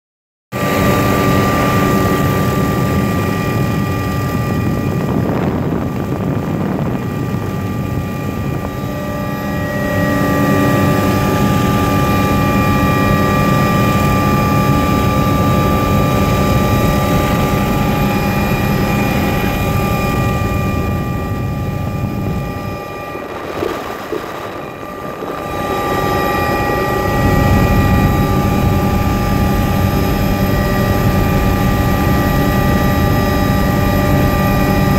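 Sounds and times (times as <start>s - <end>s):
helicopter rotor and engine drone: 0.5s - 34.9s
high whining tones: 0.6s - 34.9s.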